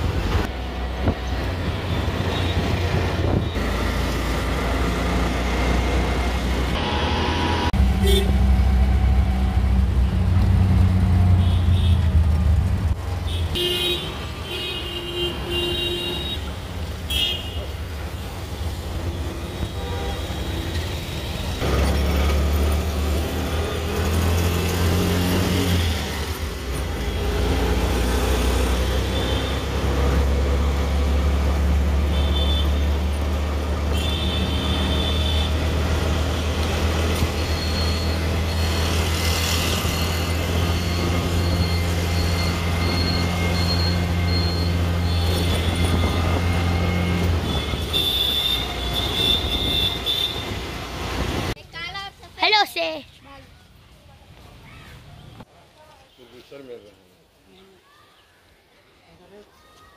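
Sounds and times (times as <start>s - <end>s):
auto-rickshaw engine hum: 0.0s - 51.6s
city traffic noise: 0.0s - 59.9s.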